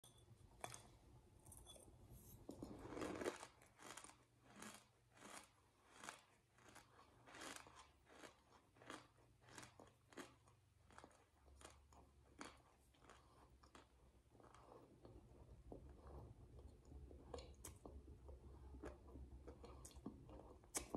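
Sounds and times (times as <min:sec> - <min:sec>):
crunching and chewing shaved ice: 0:02.6 - 0:20.9.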